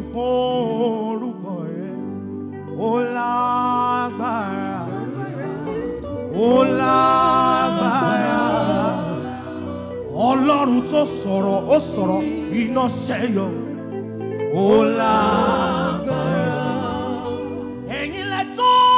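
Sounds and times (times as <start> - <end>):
gospel singing: 0.0 - 18.9
instrumental backing: 0.0 - 18.9.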